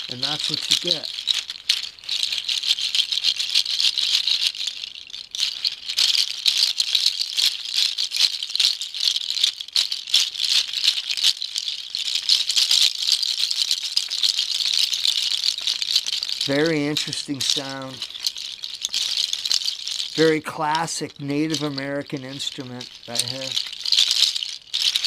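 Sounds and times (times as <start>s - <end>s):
hoof rattle clattering: 0.0s - 25.0s.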